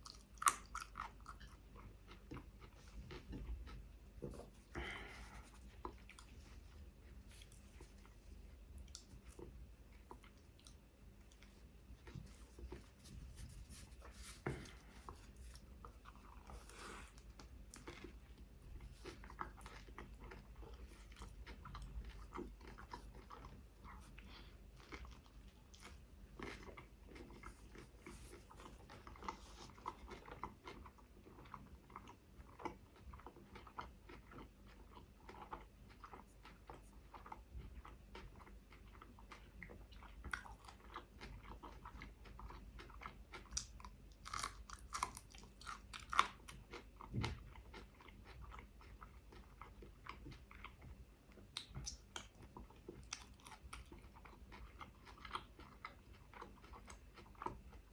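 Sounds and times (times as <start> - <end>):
close chewing and crunching: 0.0 - 57.9.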